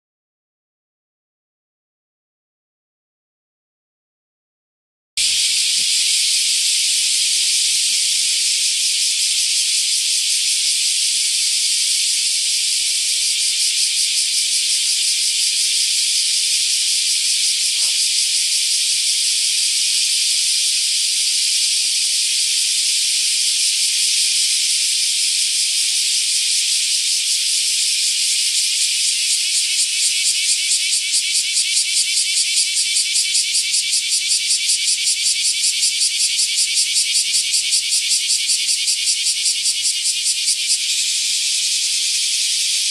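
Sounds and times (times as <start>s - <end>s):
cicada buzzing: 5.2s - 42.9s.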